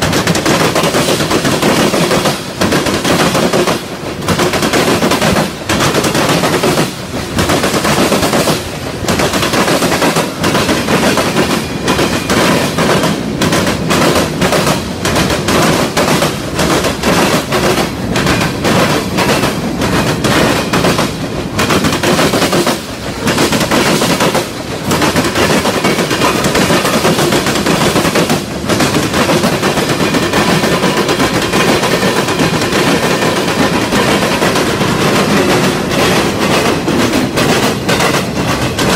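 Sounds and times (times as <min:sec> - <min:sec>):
freight train wheels rattling: 0:00.0 - 0:38.9.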